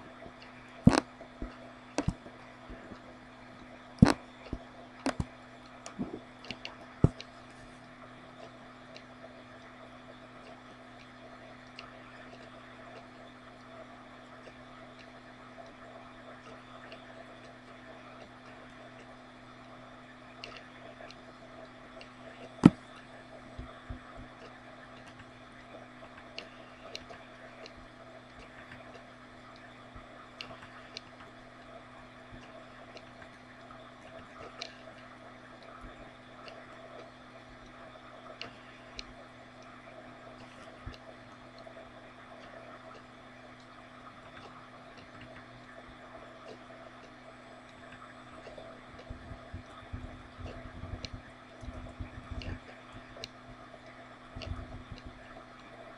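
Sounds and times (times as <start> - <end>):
steady tonal hum: 0.0 - 55.9
faint clicks: 4.0 - 55.9.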